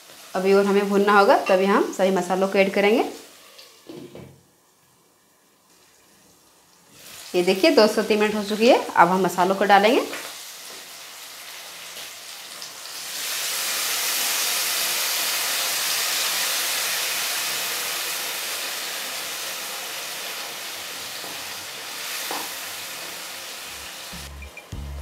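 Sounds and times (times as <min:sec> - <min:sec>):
oil sizzling in a pan: 0:00.0 - 0:24.4.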